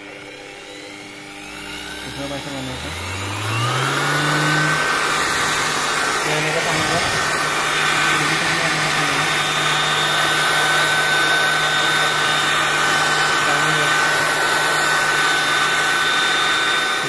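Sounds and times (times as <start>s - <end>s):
electric blower running: 0.0s - 17.0s.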